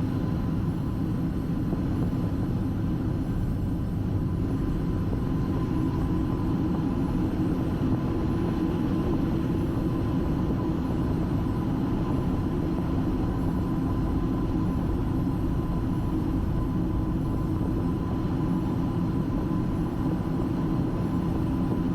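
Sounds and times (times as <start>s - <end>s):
jet engines idling rumble: 0.0s - 21.9s
thin steady whine: 0.0s - 21.9s.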